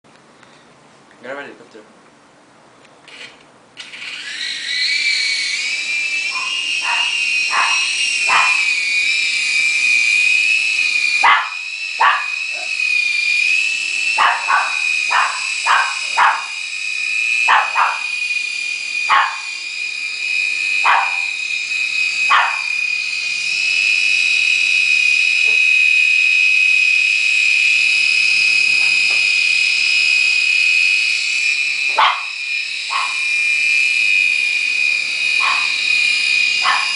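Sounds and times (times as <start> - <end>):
toy helicopter motors whining: 3.0 - 36.9.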